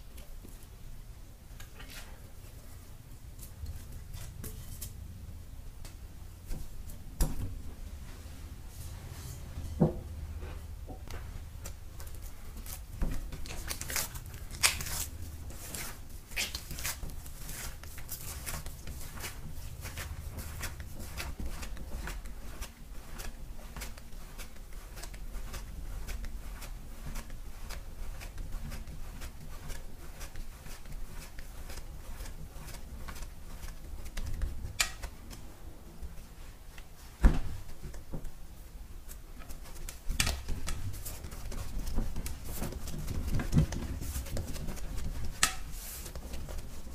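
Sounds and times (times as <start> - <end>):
hands kneading dough in a bowl: 0.0 - 46.9.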